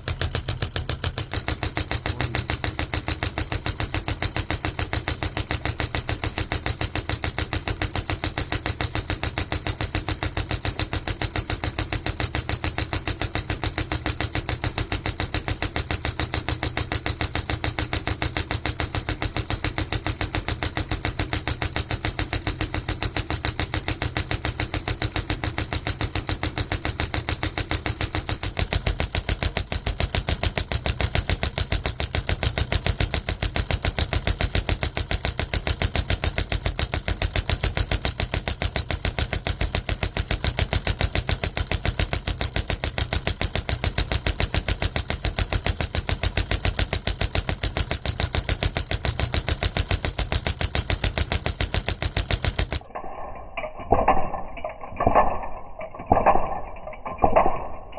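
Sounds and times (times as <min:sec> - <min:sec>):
solenoid engine plunger beating: 0:00.0 - 0:57.9.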